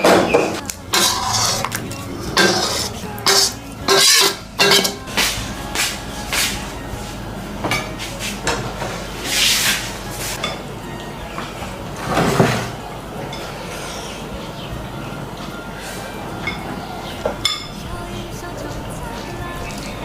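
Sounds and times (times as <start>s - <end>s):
dishes and utensils clattering: 0.0s - 14.6s, 15.4s - 20.0s.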